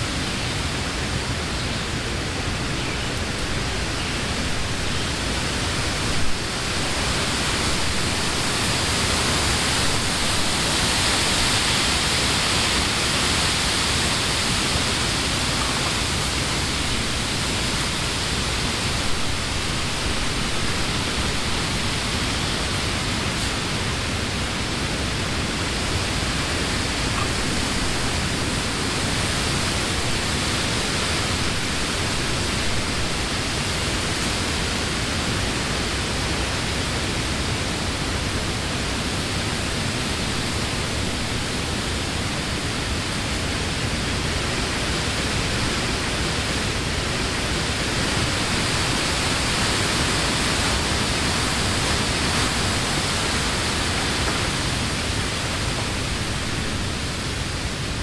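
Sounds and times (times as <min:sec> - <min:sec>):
wind rustling leaves: 0:00.0 - 0:58.0.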